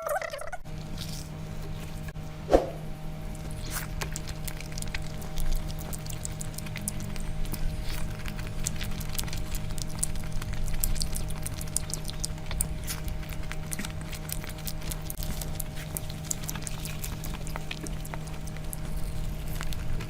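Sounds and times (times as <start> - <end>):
low hum: 0.0 - 20.0
chewing and lip smacking: 3.3 - 20.0.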